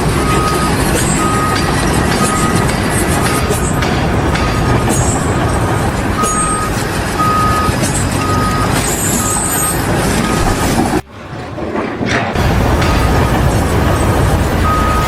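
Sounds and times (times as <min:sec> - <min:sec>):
reversing alarm beeping: 0:00.0 - 0:11.0, 0:12.4 - 0:15.0
heavy vehicle engine running: 0:00.0 - 0:15.0.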